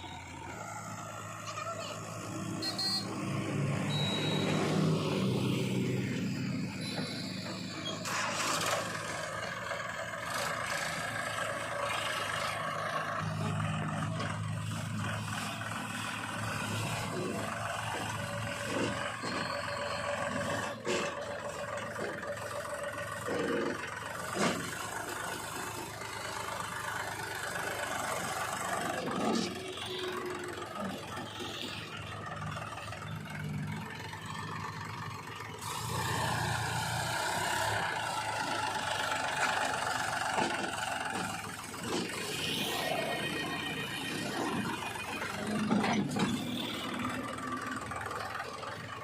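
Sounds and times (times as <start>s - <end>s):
backhoe diesel engine running: 0.0s - 49.0s.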